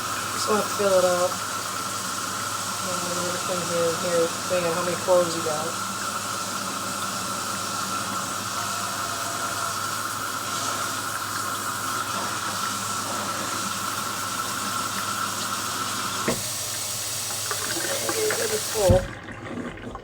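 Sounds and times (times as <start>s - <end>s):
water running into drum: 0.0s - 20.0s.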